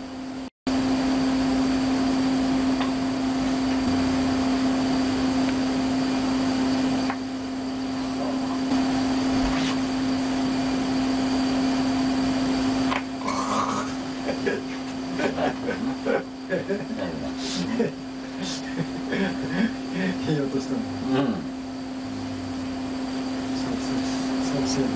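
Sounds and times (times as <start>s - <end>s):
steady machine hum: 0.0s - 24.9s.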